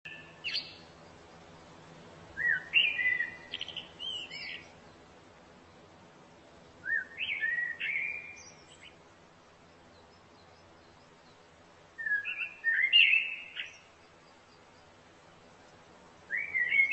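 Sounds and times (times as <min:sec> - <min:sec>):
songbird chirping: 0:00.0 - 0:16.9.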